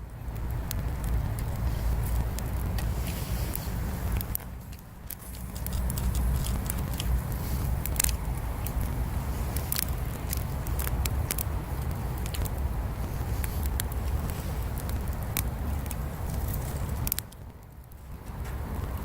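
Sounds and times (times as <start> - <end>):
bonfire crackling: 0.0 - 19.0
steady low rumble: 0.0 - 19.0.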